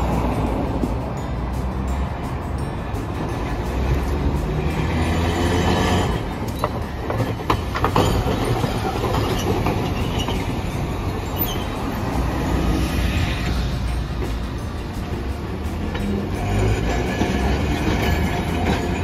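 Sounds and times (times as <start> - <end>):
steel wheels clacking: 0.0 - 19.0
tram rumble: 0.0 - 19.0.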